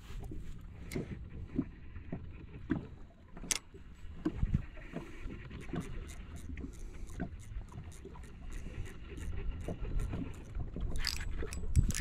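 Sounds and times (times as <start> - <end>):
waves lapping against a hull: 0.0 - 12.0.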